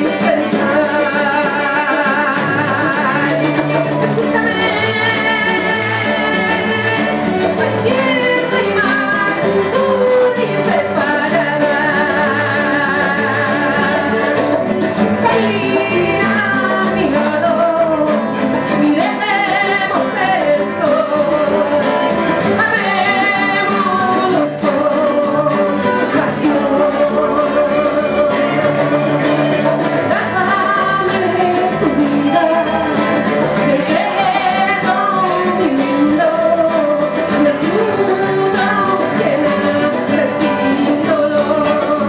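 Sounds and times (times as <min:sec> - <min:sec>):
guitars: 0:00.0 - 0:42.0
woman singing into microphone: 0:00.0 - 0:42.0.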